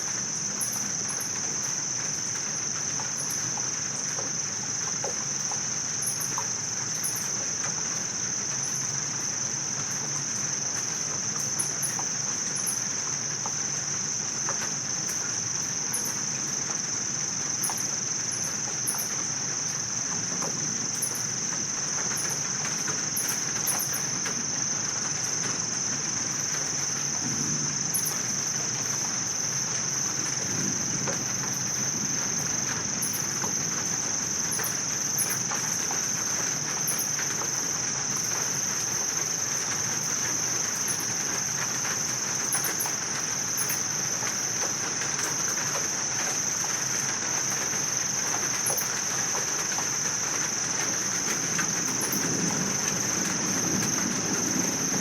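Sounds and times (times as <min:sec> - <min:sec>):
insects trilling: 0:00.0 - 0:55.0
light rain pattering: 0:00.0 - 0:55.0.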